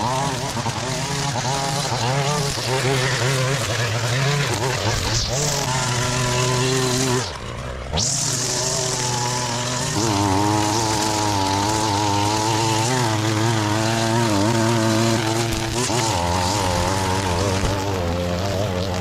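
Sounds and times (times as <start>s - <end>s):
small gas engine at high revs: 0.0s - 19.0s.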